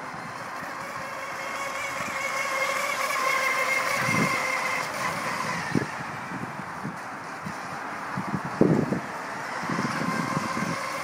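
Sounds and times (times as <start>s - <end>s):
rc boat motor whine: 0.0s - 11.0s.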